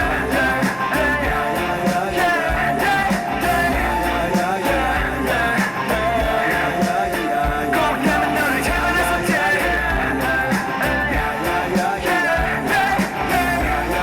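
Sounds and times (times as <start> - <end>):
pop-rock band music: 0.0 - 14.0.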